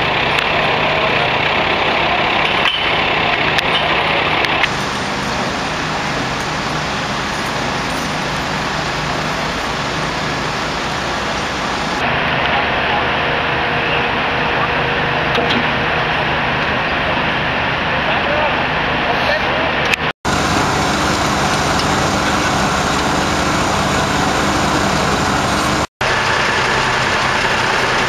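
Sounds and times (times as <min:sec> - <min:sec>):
diesel engines idling: 0:00.0 - 0:28.0.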